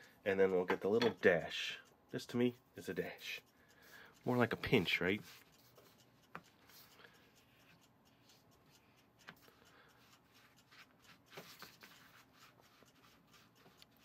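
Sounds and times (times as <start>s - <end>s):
soft ticks: 0.0s - 14.0s.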